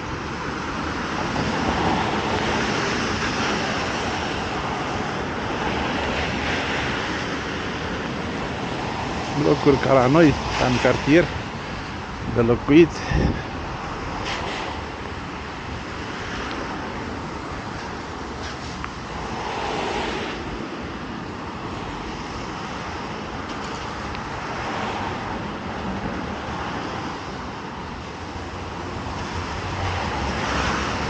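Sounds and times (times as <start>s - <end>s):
road traffic hiss: 0.0s - 31.0s
vehicles passing: 0.0s - 31.0s.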